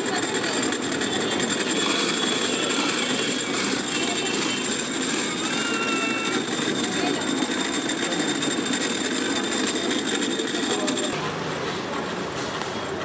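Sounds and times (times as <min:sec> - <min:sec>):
thin high tone: 0:00.0 - 0:11.2
cotton candy machine motor buzz: 0:00.0 - 0:11.4.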